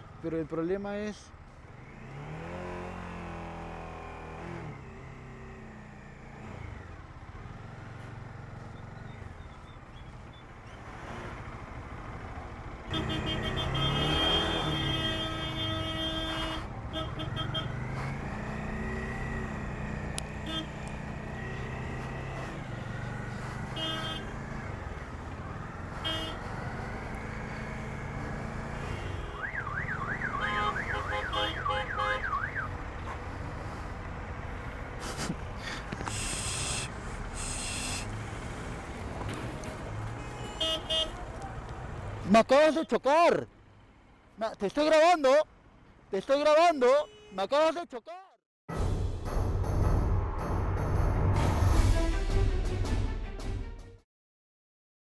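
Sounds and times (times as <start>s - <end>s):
slow city traffic: 0.0s - 51.8s.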